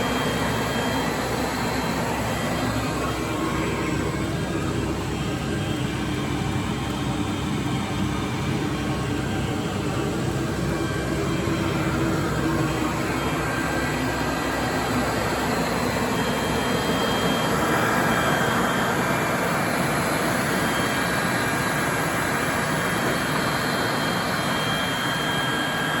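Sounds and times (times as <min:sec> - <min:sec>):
blower motor whine: 0:00.0 - 0:26.0
heater combustion roar: 0:00.0 - 0:26.0.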